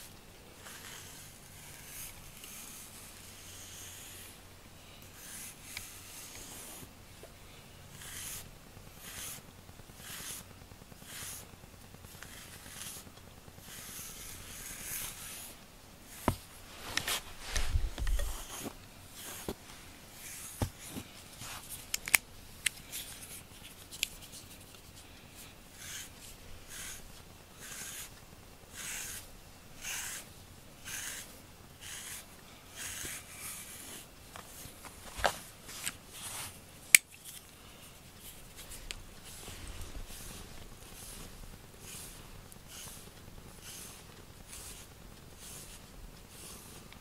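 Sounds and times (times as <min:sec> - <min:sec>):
brush rasping through fur: 0:00.6 - 0:04.4, 0:05.1 - 0:06.9, 0:07.9 - 0:11.5, 0:12.1 - 0:19.5, 0:22.9 - 0:36.6, 0:37.3 - 0:47.0.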